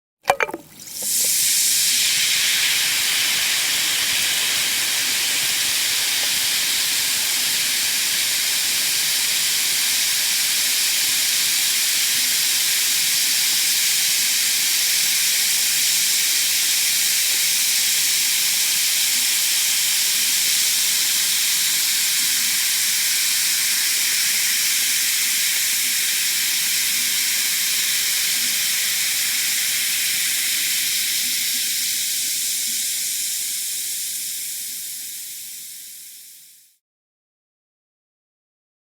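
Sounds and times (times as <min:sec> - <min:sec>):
effervescent tablet fizzing: 0:00.2 - 0:36.7.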